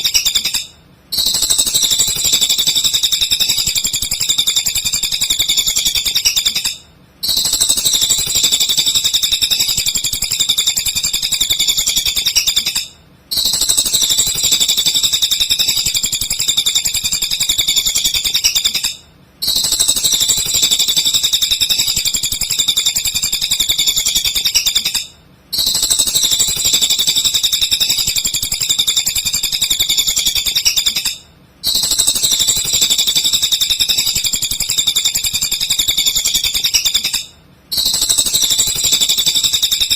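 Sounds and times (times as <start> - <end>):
bird high-pitched chatter: 0.0 - 39.9.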